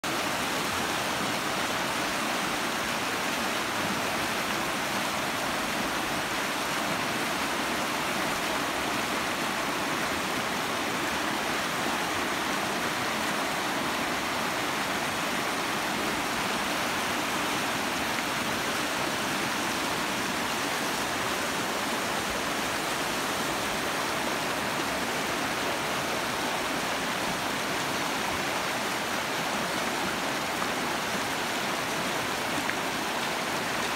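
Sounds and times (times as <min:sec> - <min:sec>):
river rushing over stones: 0:00.1 - 0:33.9.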